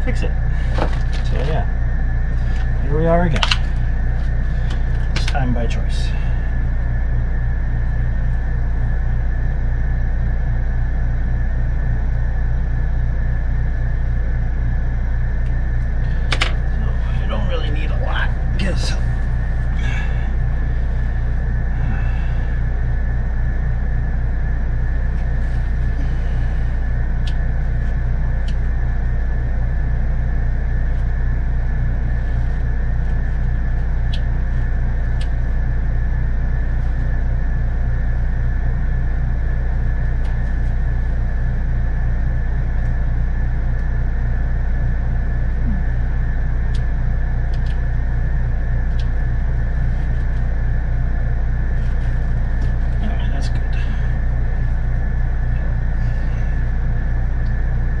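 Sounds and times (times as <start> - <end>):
high-pitched whine: 0.0 - 58.0
low mechanical rumble: 0.0 - 58.0.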